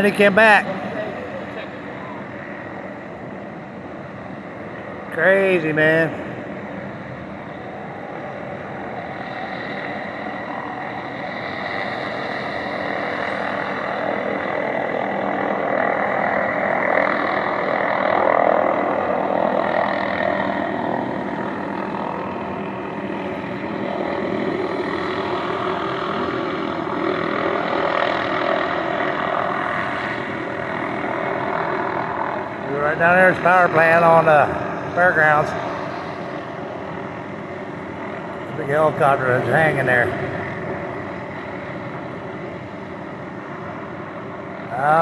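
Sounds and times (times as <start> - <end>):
helicopter hovering: 0.0 - 45.0.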